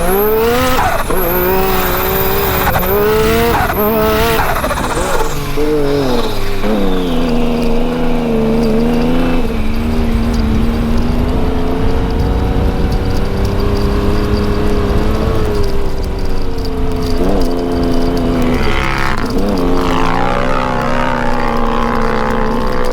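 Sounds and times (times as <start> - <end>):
engine running at high revs: 0.0 - 22.9
high turbo whine: 0.0 - 22.9.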